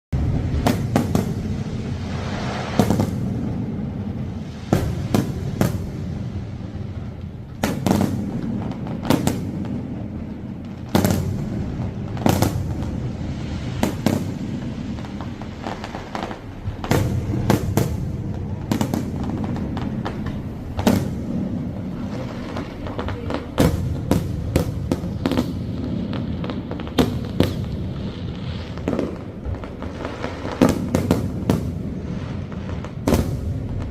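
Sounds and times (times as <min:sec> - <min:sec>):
fireworks bangs with rumbling echo: 0:00.1 - 0:33.9.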